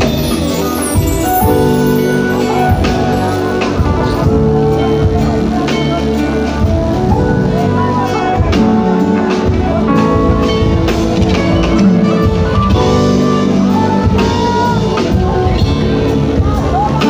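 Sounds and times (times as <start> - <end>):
drum kit beat: 0.0 - 17.0
guitar: 0.0 - 17.0
live band playing worship music: 0.0 - 17.0.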